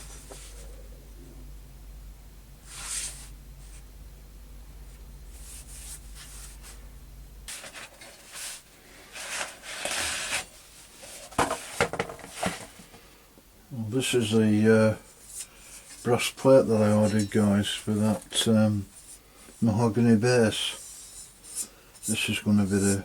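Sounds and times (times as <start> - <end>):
rustling and scraping of handling: 0.0 - 1.4, 2.6 - 3.9, 4.8 - 6.9, 7.5 - 13.1, 14.0 - 23.0
low steady hum: 0.0 - 23.0.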